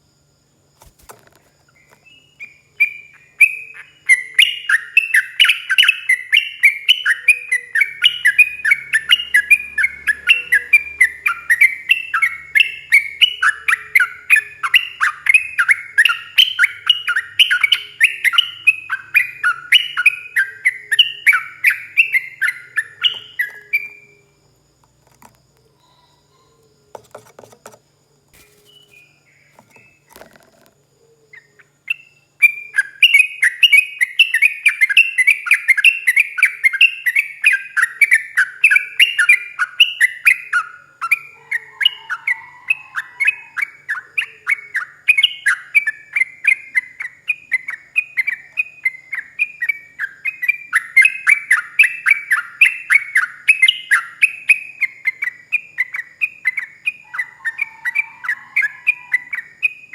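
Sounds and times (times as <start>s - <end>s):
bird chirping song: 0.8s - 59.9s.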